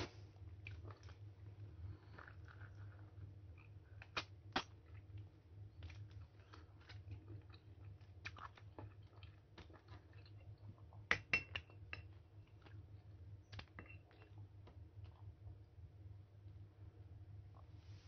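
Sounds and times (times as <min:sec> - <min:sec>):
low steady hum: 0:00.0 - 0:18.0
person chewing wetly: 0:00.5 - 0:15.5.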